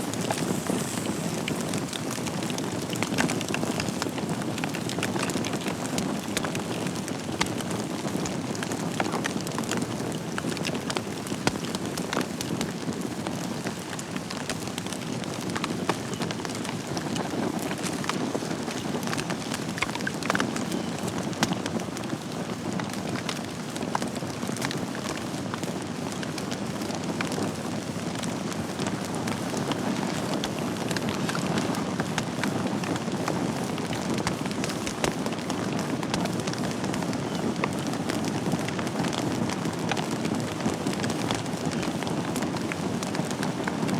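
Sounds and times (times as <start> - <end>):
fire crackling and popping: 0.0 - 43.9
fire hissing and rumbling: 0.0 - 43.9.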